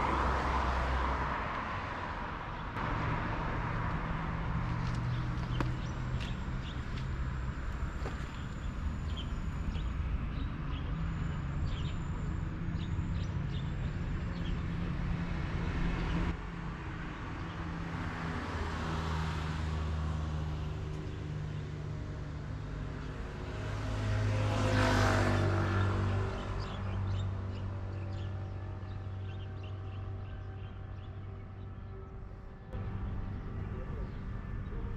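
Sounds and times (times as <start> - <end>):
low traffic engine hum: 0.0 - 34.9
vehicle passing: 0.0 - 34.9.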